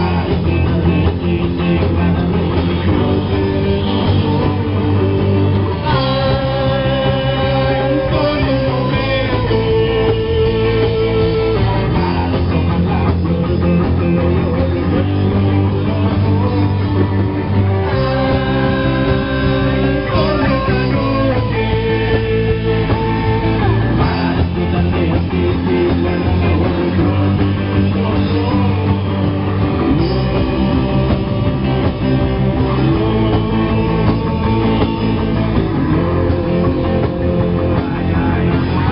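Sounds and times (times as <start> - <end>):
bass guitar: 0.0 - 38.9
electric guitar: 0.0 - 38.9
live rock band playing: 0.0 - 38.9
person singing: 0.0 - 38.9.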